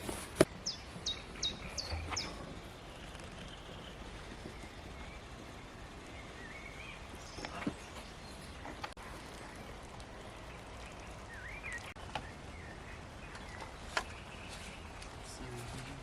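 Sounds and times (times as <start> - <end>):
outdoor background noise: 0.0 - 16.0
birds warbling: 0.4 - 16.0.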